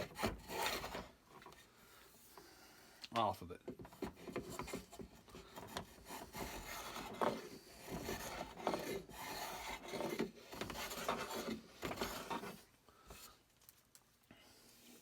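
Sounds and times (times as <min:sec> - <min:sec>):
hand tool scraping wood: 0:00.0 - 0:02.5, 0:03.7 - 0:13.4.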